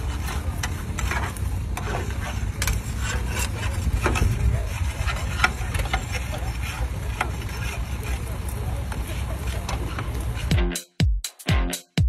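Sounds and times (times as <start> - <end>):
plow crunching and scraping sod: 0.0 - 10.5.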